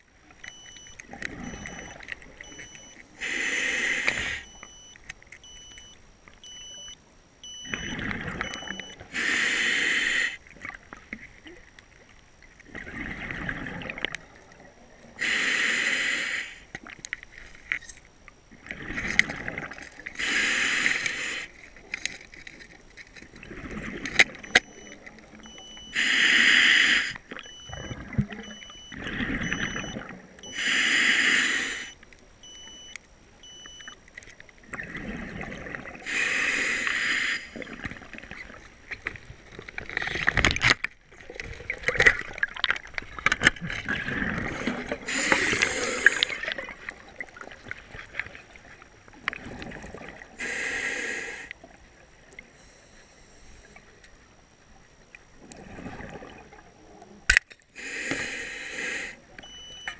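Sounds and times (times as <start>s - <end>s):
underwater bubbling: 0.0s - 59.9s.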